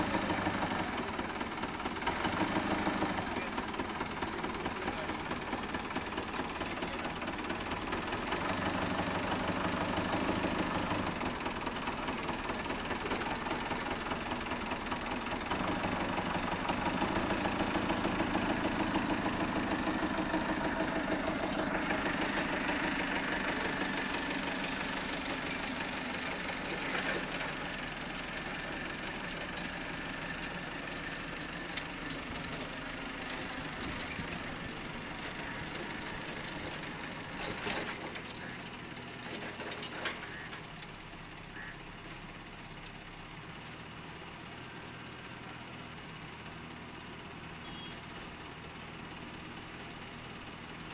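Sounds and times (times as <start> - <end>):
forklift engine running: 0.0 - 50.9.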